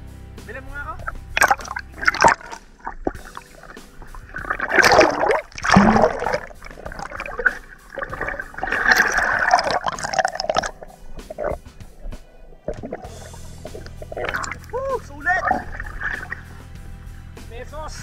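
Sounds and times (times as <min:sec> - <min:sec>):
water splashing and sloshing: 0:01.0 - 0:16.9.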